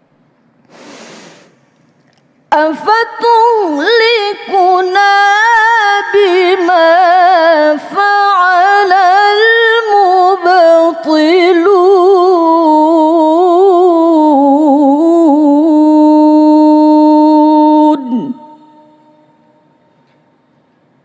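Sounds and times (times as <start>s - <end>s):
woman reciting melodically: 2.5s - 19.9s.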